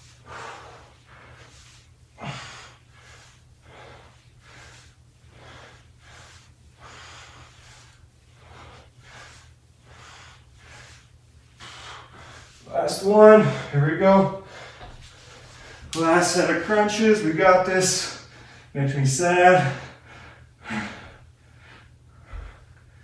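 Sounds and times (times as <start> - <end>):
man breathing hard: 0.0 - 16.9, 17.9 - 18.8, 19.5 - 23.0
steady low hum: 0.0 - 23.0.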